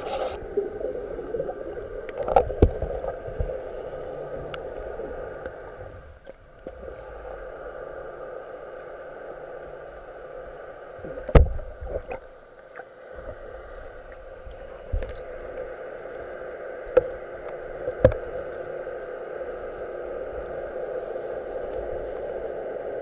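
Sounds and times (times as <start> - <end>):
faint steady hum: 0.0 - 23.0
steady underwater drone: 0.0 - 23.0.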